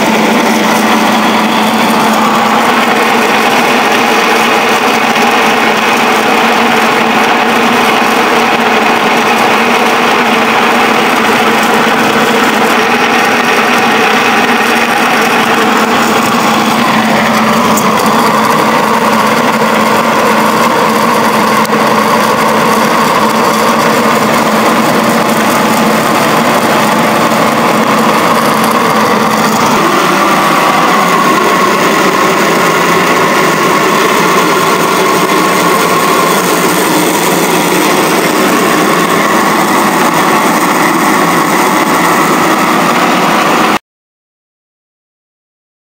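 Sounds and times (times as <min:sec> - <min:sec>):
pellet mill humming: 0:00.0 - 0:43.8.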